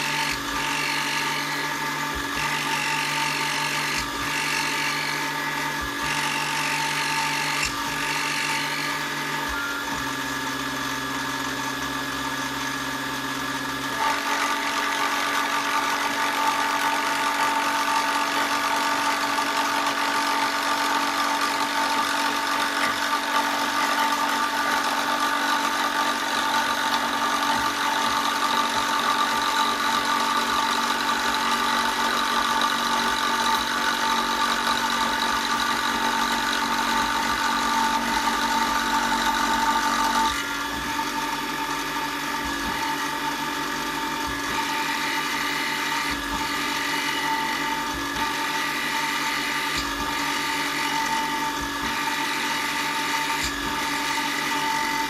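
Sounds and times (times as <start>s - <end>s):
electric power tool whining: 0.0s - 55.0s.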